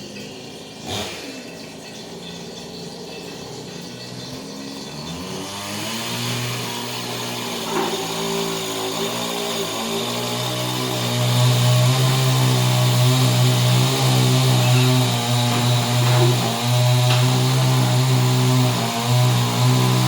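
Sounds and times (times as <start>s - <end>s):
chainsaw engine running: 0.0s - 20.0s.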